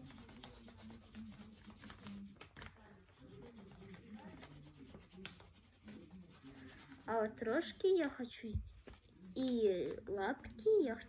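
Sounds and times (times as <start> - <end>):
pencil scratching on paper: 0.0 - 9.2.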